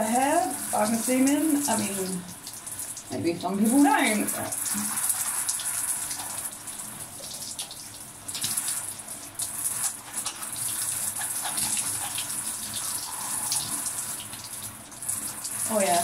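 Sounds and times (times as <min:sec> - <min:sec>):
shower water splashing: 0:00.0 - 0:16.0.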